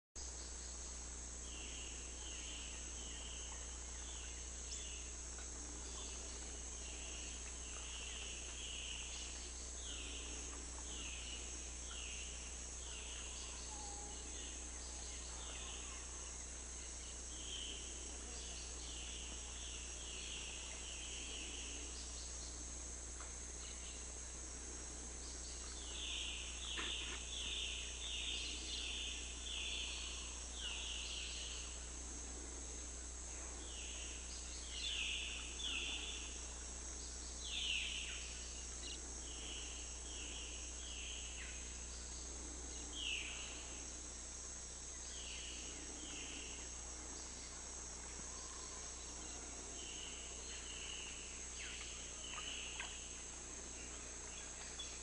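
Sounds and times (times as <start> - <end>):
faint low hum: 0.2 - 55.0
insect chirping call: 0.2 - 55.0
insects droning: 0.2 - 55.0.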